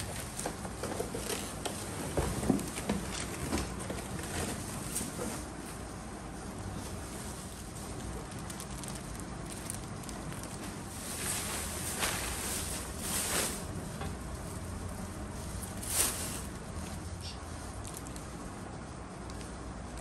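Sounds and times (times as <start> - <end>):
plastic wrapping crinkling: 0.0 - 20.0
steady low hum: 0.0 - 20.0.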